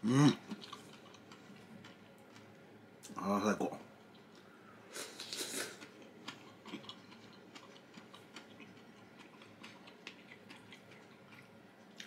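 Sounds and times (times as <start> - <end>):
person chewing food: 0.3 - 2.6, 4.0 - 12.0.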